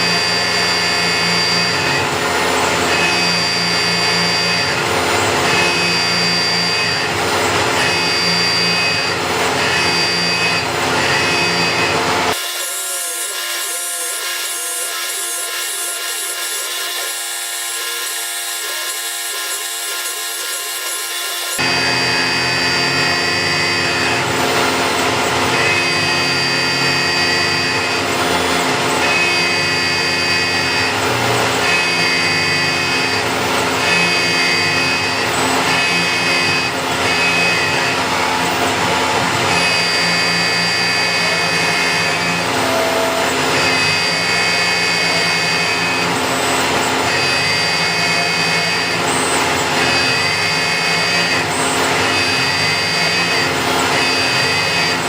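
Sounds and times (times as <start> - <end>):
cnc machine whine: 0.0 - 55.0.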